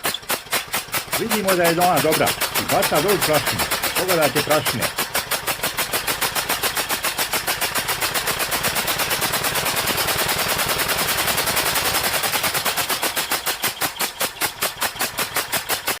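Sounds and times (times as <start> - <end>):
diesel engine running: 0.0 - 16.0
fuel injector spitting bursts: 0.0 - 16.0.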